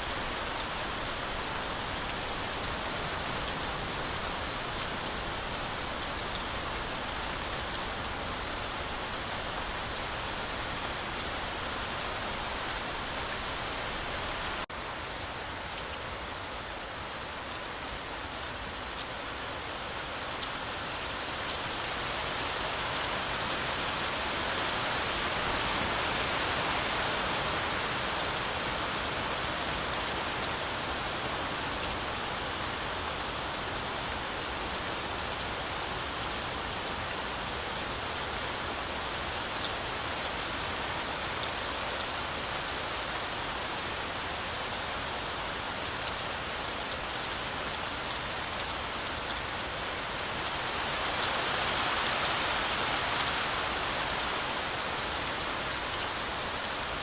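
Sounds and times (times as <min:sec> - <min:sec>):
heavy rain through forest canopy: 0:00.0 - 0:57.0.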